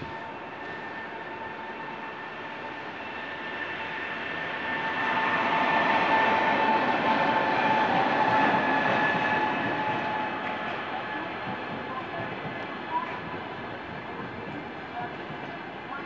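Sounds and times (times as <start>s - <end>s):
electric locomotive whine: 0.0s - 16.0s
train rumble: 0.0s - 16.0s.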